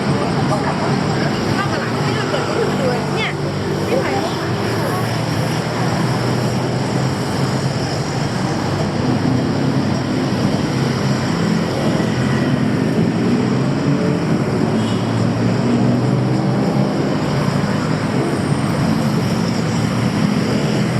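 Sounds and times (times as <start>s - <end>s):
loud traffic noise: 0.0s - 20.9s.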